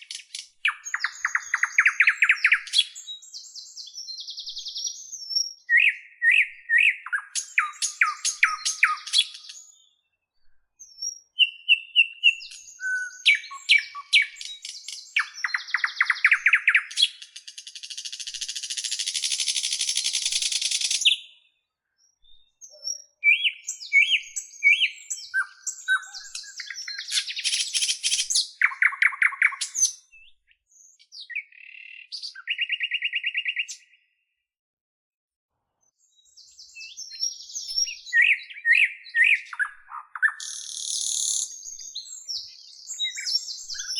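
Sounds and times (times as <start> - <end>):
bird singing chirps and trills: 0.0 - 34.2, 35.8 - 43.9.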